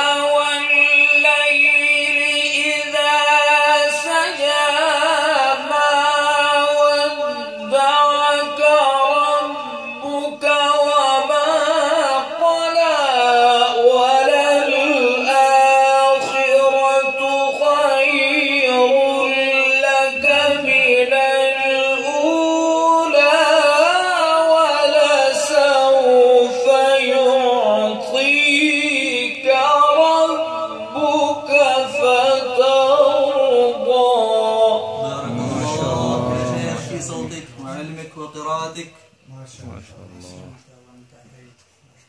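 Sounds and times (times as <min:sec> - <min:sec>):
man reciting melodically: 0:00.0 - 0:40.7.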